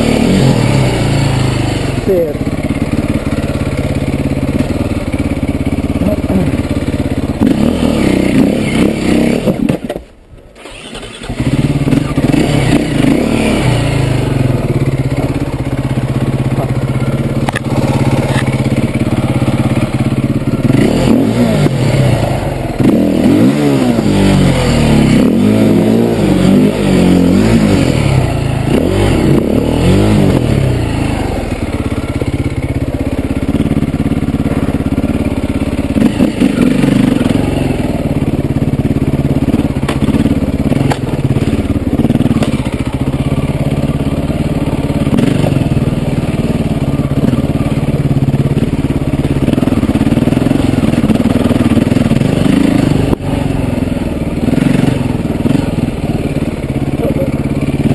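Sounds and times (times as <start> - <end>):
dirt bike engine revving: 0.0 - 10.0, 10.6 - 57.9.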